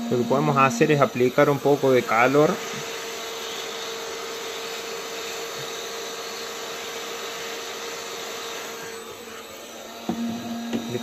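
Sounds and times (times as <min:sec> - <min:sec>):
hot-air gun blowing: 0:00.0 - 0:11.0.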